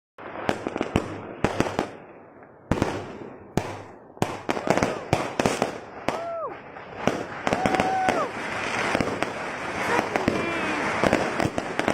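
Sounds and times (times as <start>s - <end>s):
fireworks bangs: 0.2s - 11.9s.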